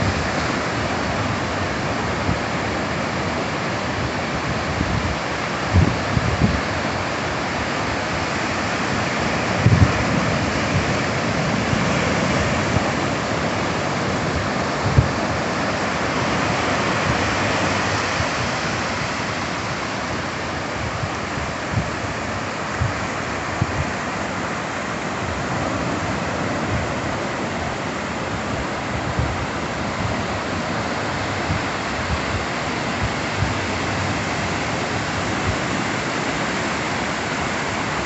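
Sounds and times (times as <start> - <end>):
waves breaking on beach: 0.0 - 38.0.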